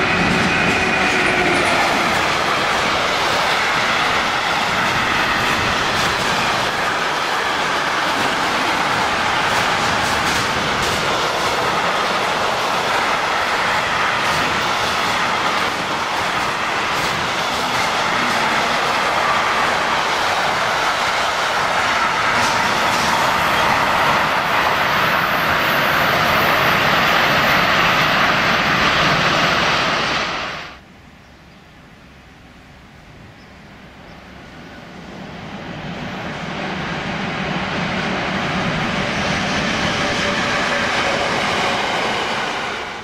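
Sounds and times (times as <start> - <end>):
rail clicks: 0.0 - 30.8, 35.2 - 43.0
steel wheels rattling on rail: 0.0 - 30.8, 34.9 - 43.0.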